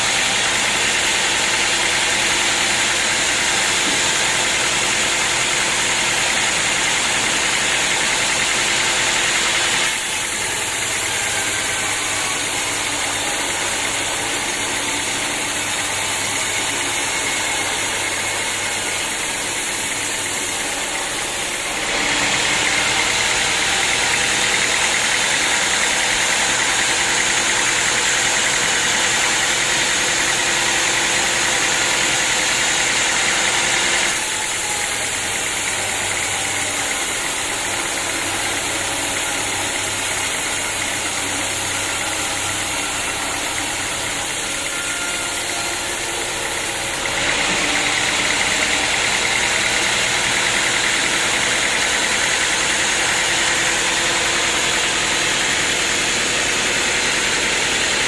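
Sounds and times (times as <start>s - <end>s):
saw blade cutting log: 0.0s - 58.0s
sawmill running: 0.0s - 58.0s.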